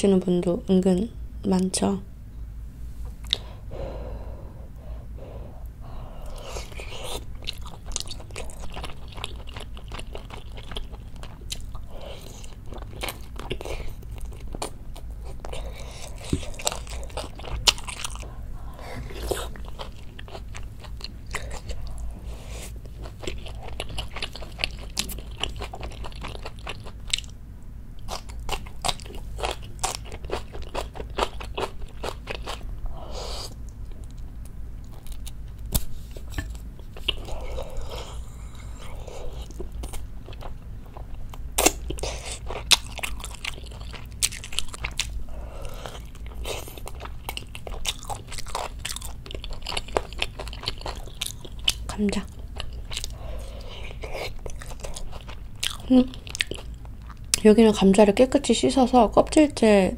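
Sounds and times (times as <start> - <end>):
person chewing wetly: 6.2 - 27.4, 28.0 - 57.4.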